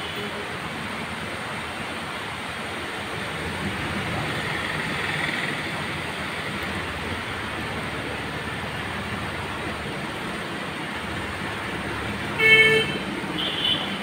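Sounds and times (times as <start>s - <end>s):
car driving on wet road: 0.0s - 14.0s
steady rain on street and rooftops: 0.0s - 14.0s.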